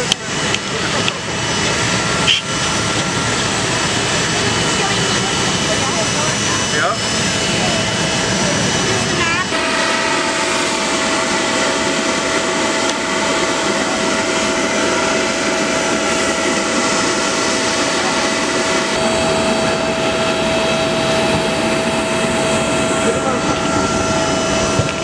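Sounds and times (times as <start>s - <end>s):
high machinery whine: 0.0s - 25.0s.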